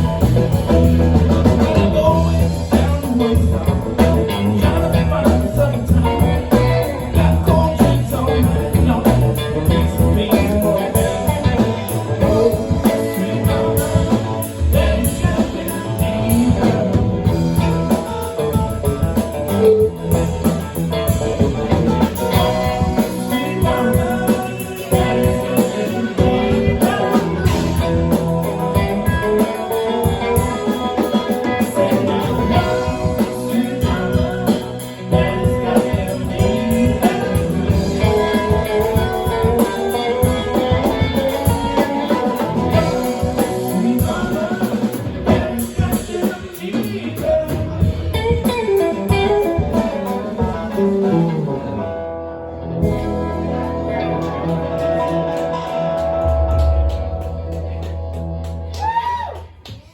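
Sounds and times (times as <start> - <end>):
blues band playing: 0.0 - 59.9
electric guitar: 0.0 - 59.9.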